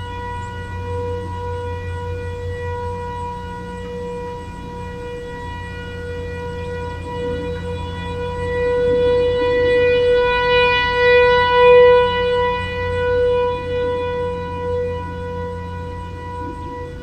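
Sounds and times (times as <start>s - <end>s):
electronic warning siren tone: 0.0s - 17.0s.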